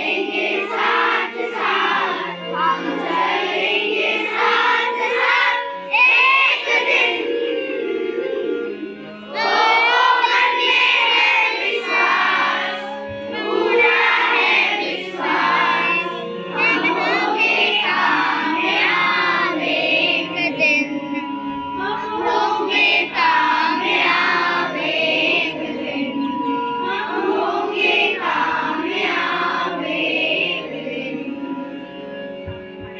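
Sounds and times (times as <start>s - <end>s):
children singing together: 0.0s - 32.5s
instrumental accompaniment: 0.0s - 32.9s.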